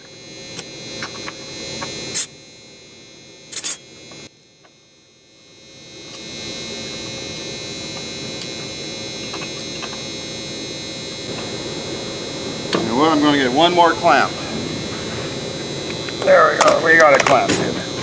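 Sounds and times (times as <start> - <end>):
electric machine hum: 0.0 - 18.0.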